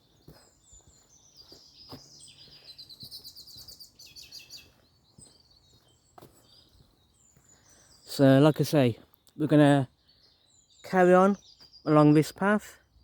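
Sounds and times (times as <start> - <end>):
songbird trilling: 0.0 - 12.6
faint footsteps on path: 0.0 - 13.0.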